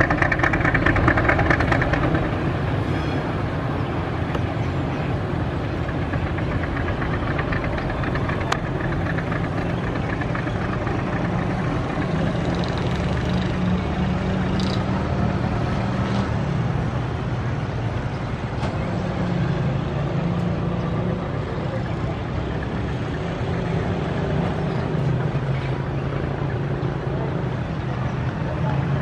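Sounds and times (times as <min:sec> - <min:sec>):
diesel locomotive engine rumbling: 0:00.0 - 0:29.0.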